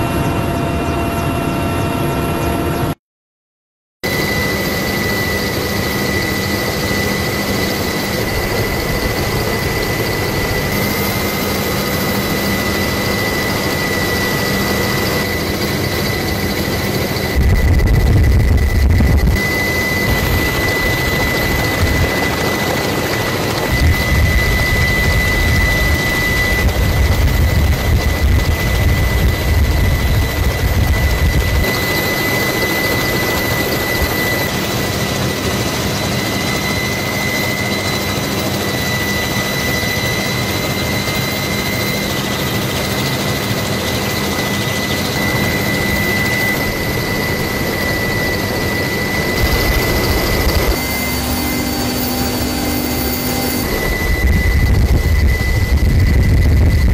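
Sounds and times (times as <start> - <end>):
helicopter flying: 0.0 - 3.0, 4.0 - 56.9.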